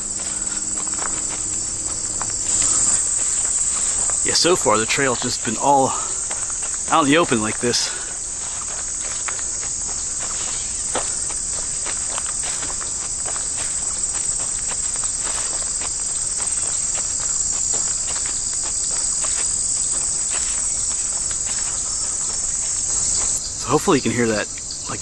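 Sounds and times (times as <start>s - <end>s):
footsteps on dirt trail: 0.0s - 25.0s
insects chirping: 0.0s - 25.0s.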